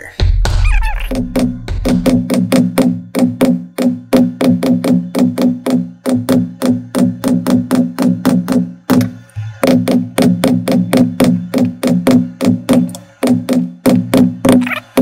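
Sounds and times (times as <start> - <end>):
mallet striking stamping tool: 0.2 - 15.0.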